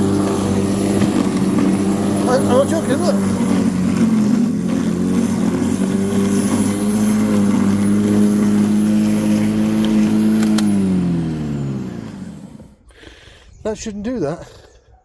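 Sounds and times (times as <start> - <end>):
electric lawnmower motor: 0.0 - 12.9.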